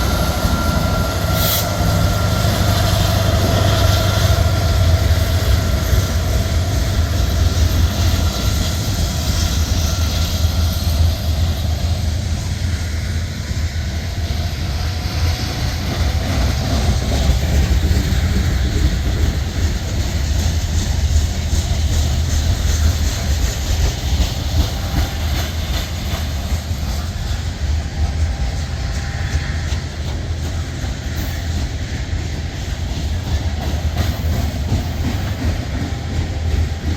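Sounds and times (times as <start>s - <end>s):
freight train rumbling past: 0.0s - 36.9s.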